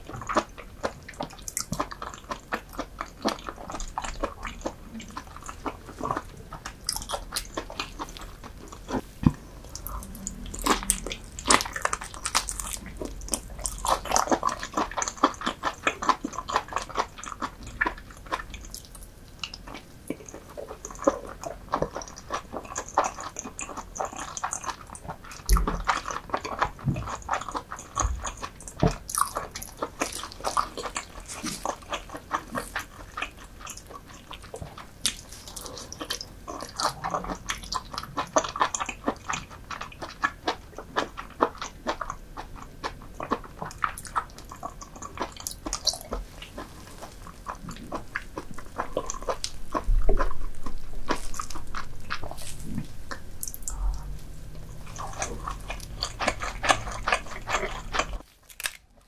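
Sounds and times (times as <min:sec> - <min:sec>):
chewing with wet clicks: 0:00.0 - 0:59.0.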